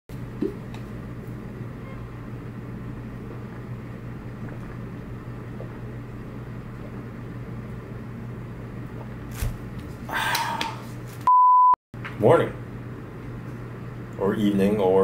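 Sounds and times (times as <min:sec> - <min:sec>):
low mechanical hum: 0:00.1 - 0:11.3, 0:12.0 - 0:15.0.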